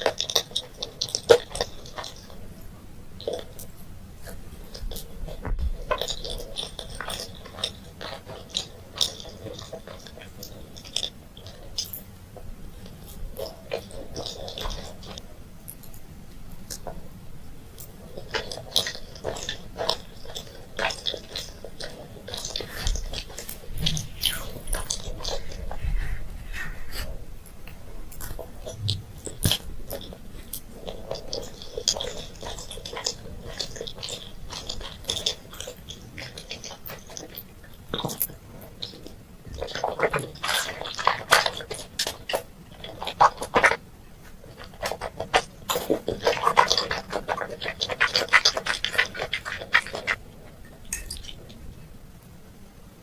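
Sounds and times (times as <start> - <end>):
chewing and biting candy: 0.0 - 2.6, 3.2 - 16.0, 17.7 - 26.2, 26.9 - 51.6
wet mouth sounds: 3.2 - 12.1, 12.7 - 16.0, 17.8 - 50.3.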